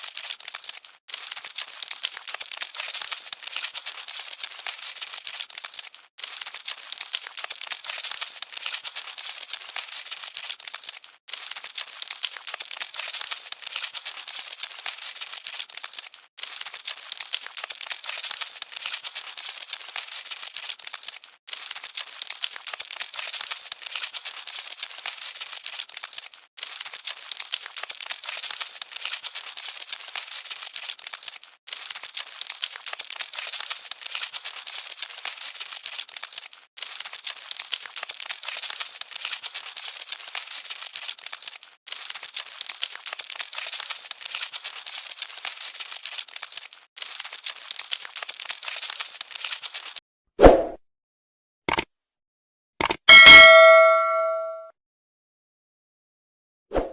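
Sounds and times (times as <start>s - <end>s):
cockroaches scuttling: 0.0s - 50.0s.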